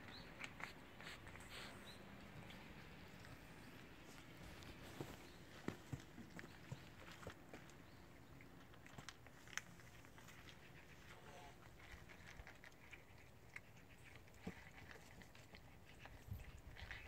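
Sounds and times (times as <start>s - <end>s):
cats crunching food: 0.0s - 17.0s.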